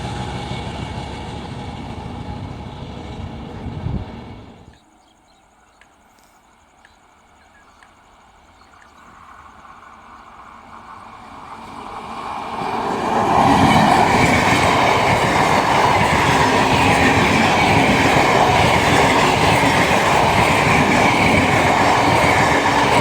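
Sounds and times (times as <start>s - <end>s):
train rumbling past: 0.0s - 4.9s, 6.6s - 23.0s.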